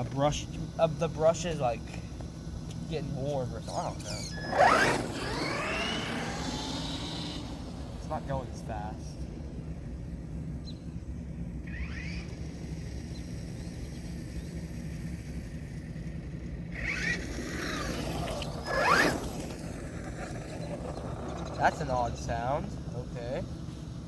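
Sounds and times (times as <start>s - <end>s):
toy car electric motor whining: 0.0s - 8.9s, 11.6s - 15.2s, 16.8s - 24.0s.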